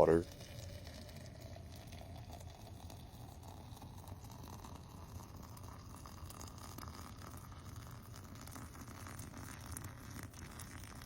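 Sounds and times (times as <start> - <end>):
water pouring into a press: 0.0 - 11.0.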